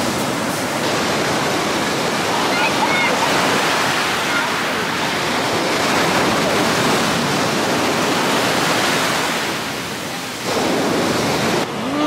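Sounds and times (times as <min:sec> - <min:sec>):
sea surf breaking on pebbles: 0:00.0 - 0:11.8.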